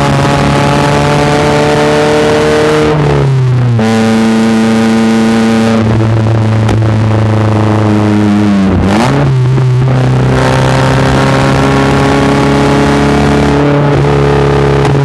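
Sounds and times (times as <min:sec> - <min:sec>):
car exhaust engine note: 0:00.0 - 0:15.0.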